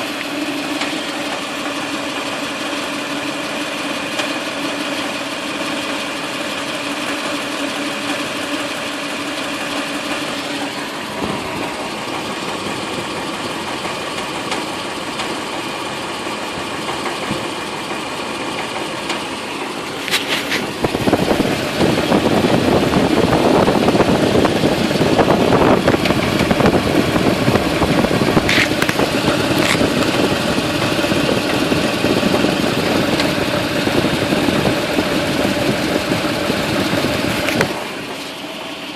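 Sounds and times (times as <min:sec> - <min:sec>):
car engine idling with knock: 0:00.0 - 0:38.9.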